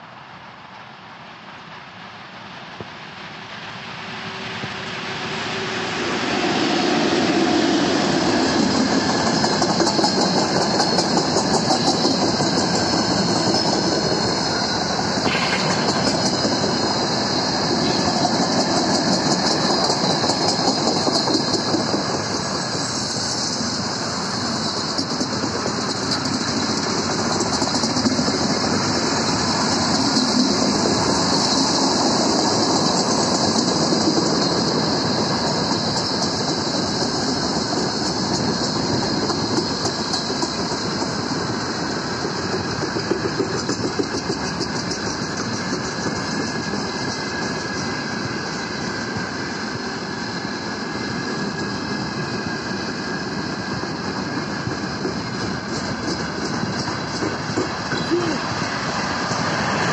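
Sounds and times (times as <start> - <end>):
freight train wheels rumbling on rails: 0.0 - 59.9
clickety-clack over rail joints: 6.9 - 59.9.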